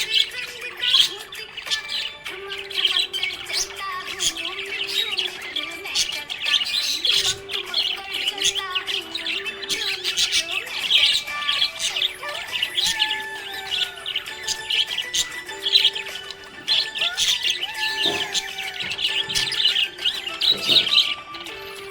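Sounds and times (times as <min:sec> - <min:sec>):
budgies chirping: 0:00.0 - 0:21.9
soft background music: 0:00.0 - 0:21.9.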